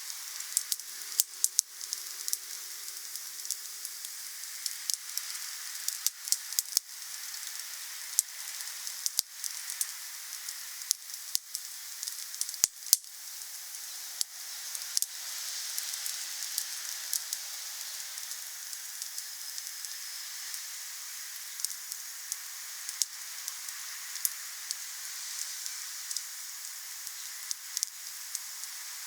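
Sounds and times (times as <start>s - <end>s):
wood fire crackling: 0.1s - 15.1s, 15.7s - 29.0s.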